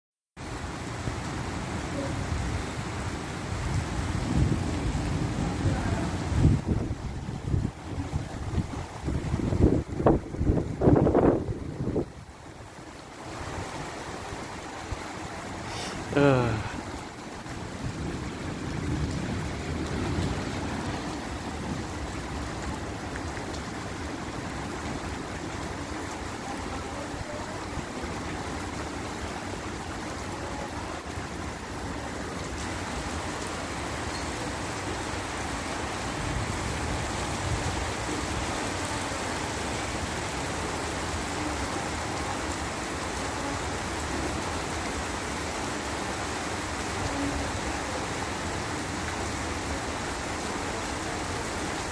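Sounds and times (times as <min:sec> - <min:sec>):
heavy rain on a wet street: 0:00.4 - 0:51.9.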